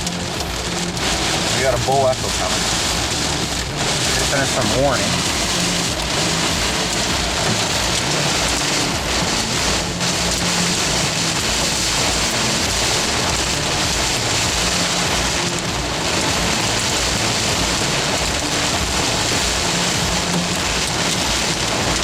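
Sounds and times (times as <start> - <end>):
heavy rain downpour: 0.0 - 22.0.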